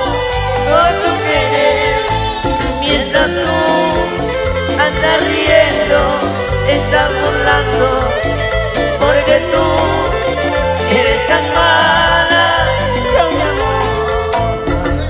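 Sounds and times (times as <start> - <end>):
live band instrumental music: 0.0 - 15.0
melodic lead line: 0.0 - 15.0
rhythmic bass beat: 0.0 - 15.0.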